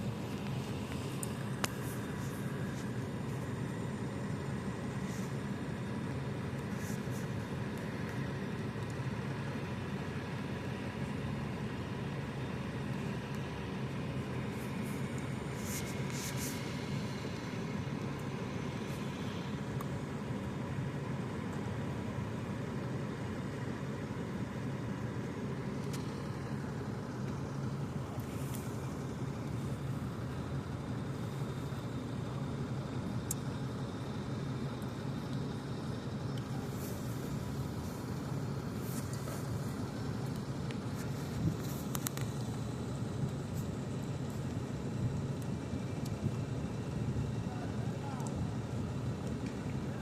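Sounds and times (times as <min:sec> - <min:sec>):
construction machinery droning: 0:00.0 - 0:50.0.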